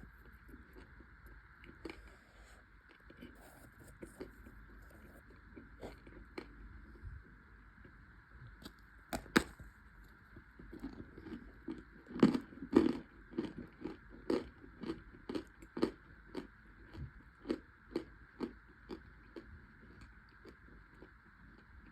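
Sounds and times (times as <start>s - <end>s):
crunchy snack being chewed: 0.0s - 7.0s, 8.6s - 21.8s.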